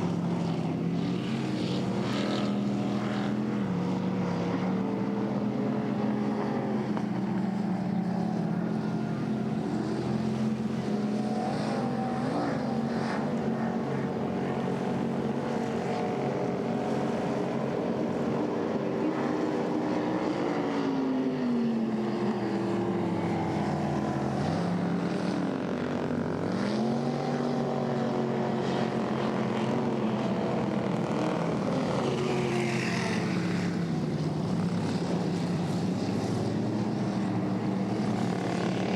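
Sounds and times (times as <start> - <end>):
race boat engines running: 0.1 - 38.9.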